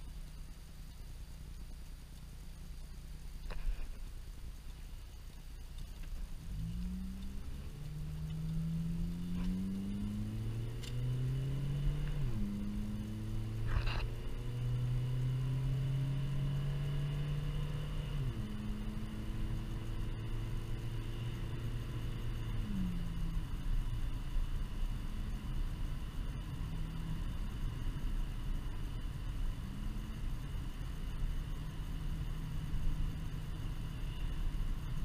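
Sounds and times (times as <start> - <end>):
car engine accelerating and shifting: 0.0 - 35.0
road rumble: 0.0 - 35.0.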